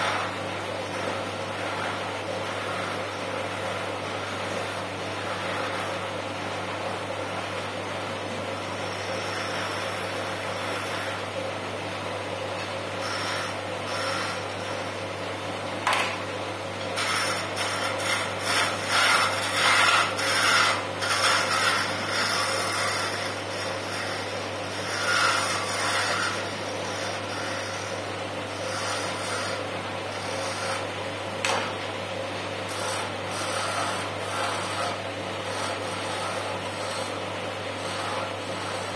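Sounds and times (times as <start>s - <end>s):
turning tool scraping wood: 0.0s - 11.4s, 12.6s - 15.1s, 16.8s - 38.9s
wood lathe humming: 0.0s - 11.4s, 12.5s - 15.1s, 16.8s - 38.9s.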